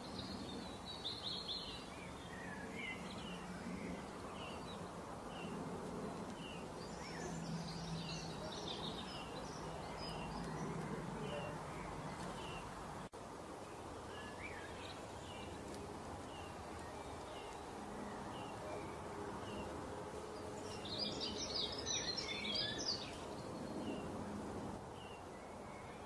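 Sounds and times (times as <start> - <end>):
birds twittering: 0.0 - 26.0
small birds chirping: 0.0 - 26.0
steady background hiss: 0.0 - 26.0.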